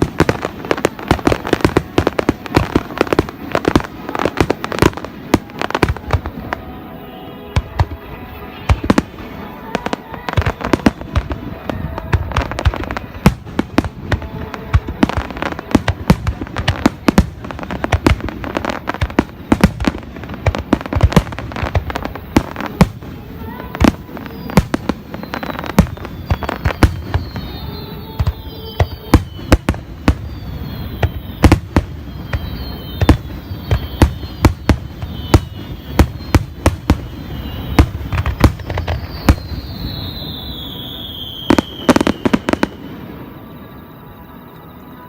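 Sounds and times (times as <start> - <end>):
fireworks bangs and crackles: 0.0 - 44.5.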